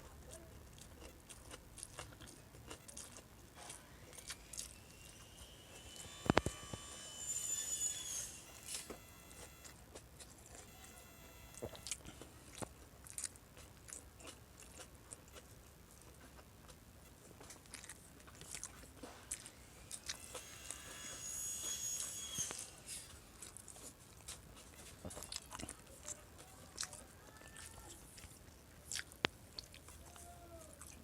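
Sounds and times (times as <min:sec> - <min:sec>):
person chewing food: 0:00.0 - 0:06.5, 0:08.7 - 0:20.5, 0:23.1 - 0:30.2.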